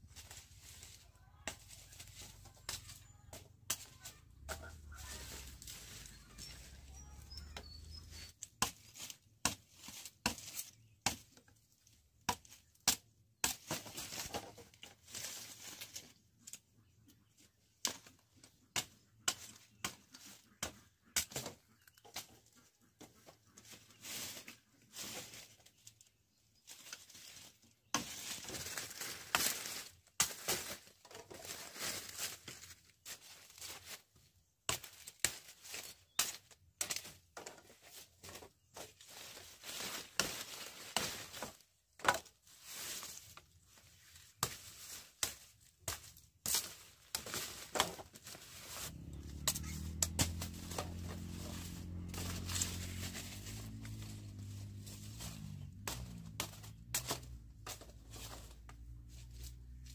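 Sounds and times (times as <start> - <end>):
dry leaves rustling and tearing: 0.0 - 12.8, 13.6 - 16.6, 23.6 - 59.9
sugarcane cracking and knocking: 0.1 - 16.5, 26.6 - 34.0, 34.6 - 59.9.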